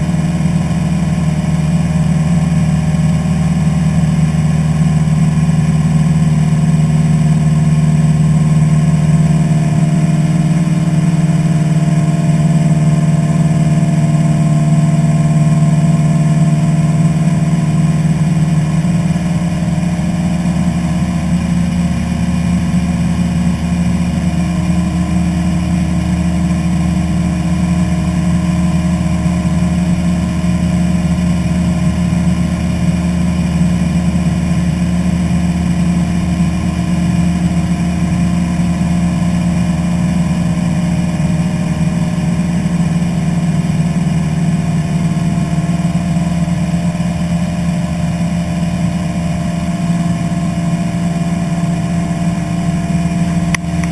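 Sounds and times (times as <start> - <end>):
light airplane engine droning: 0.0 - 53.9.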